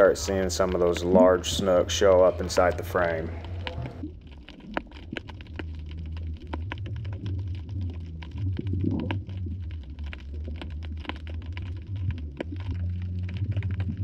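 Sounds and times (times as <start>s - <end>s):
muffled underwater rumble: 0.0s - 14.0s
sharp underwater clicks and crackles: 0.0s - 14.0s.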